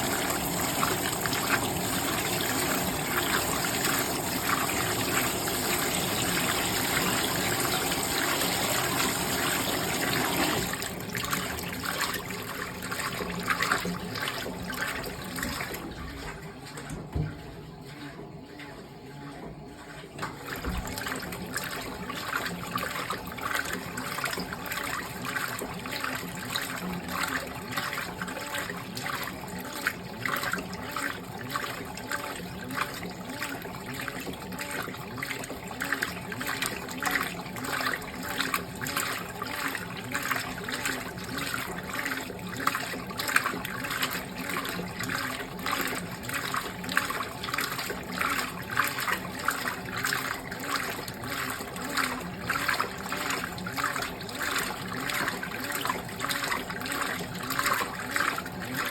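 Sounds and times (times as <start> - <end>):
washing machine water sloshing: 0.0 - 58.9.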